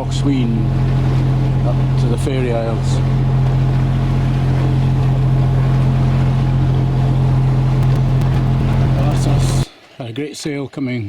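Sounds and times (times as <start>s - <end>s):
boat engine humming: 0.0s - 9.7s
wind and water noise: 0.0s - 10.3s.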